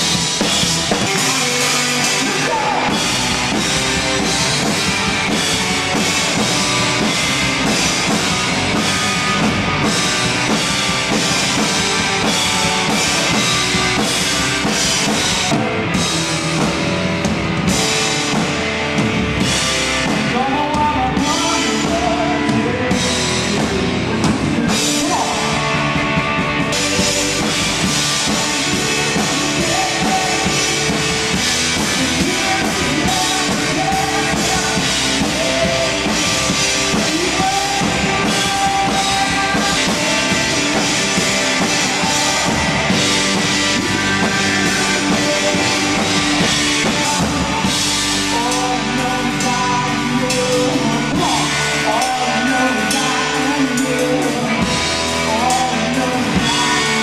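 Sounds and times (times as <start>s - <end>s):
man singing: 0.0s - 14.0s, 20.0s - 57.0s
rock band playing: 0.0s - 57.0s.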